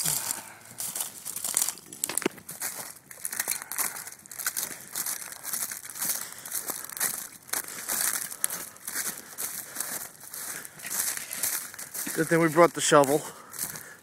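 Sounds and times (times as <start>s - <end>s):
footsteps through ice and reeds: 0.0s - 14.0s.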